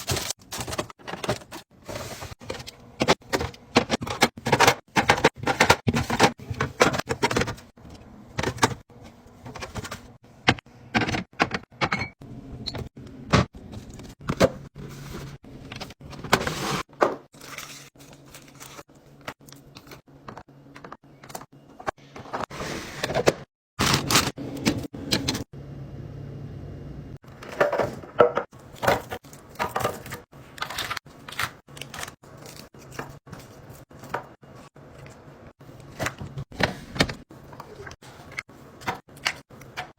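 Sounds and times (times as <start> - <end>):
containers clinking in fridge: 0.0 - 25.4, 27.3 - 34.4.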